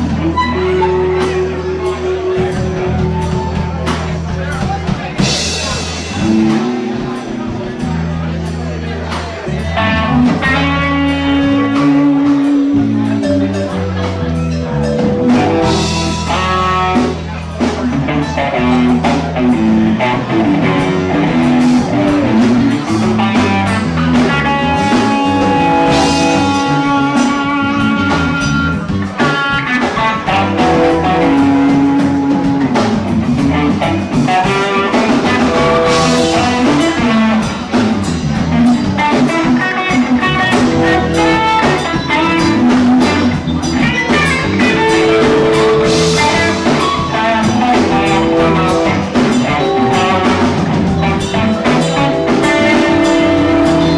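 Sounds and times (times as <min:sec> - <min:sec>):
bass guitar: 0:00.0 - 0:53.9
drum kit: 0:00.0 - 0:53.9
electric guitars: 0:00.0 - 0:53.9
keyboard: 0:00.0 - 0:53.9.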